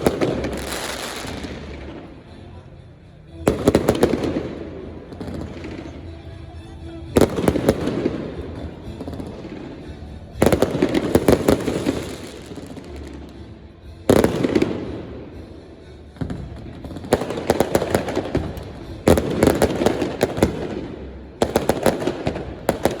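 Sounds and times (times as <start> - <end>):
fireworks bangs and crackling: 0.0 - 2.4, 3.4 - 6.4, 7.1 - 23.0.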